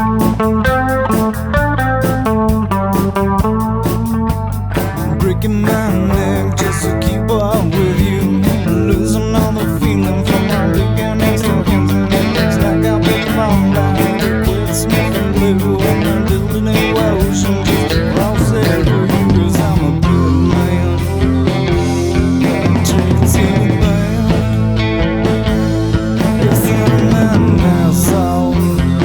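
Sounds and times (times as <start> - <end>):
bass guitar: 0.0 - 29.0
electric guitar: 0.0 - 29.0
steady drum beat: 0.0 - 29.0.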